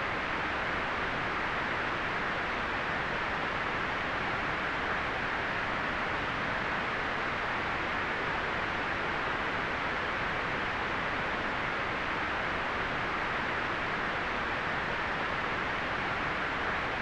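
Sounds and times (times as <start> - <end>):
steady white noise hiss: 0.0 - 17.0.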